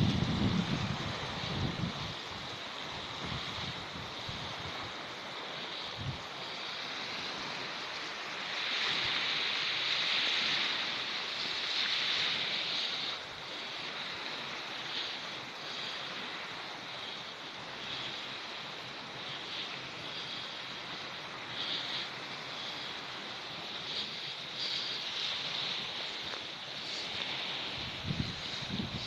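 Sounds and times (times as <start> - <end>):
sea waves washing ashore: 0.0 - 29.0.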